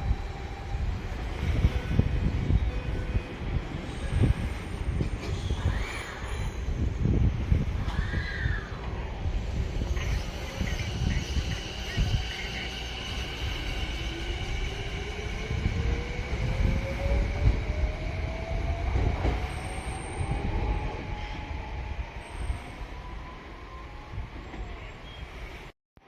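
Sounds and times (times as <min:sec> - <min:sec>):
train wheels rumbling: 0:00.0 - 0:23.1.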